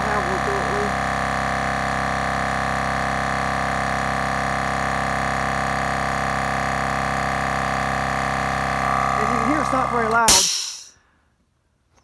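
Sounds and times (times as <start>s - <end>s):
air compressor running: 0.0s - 10.9s.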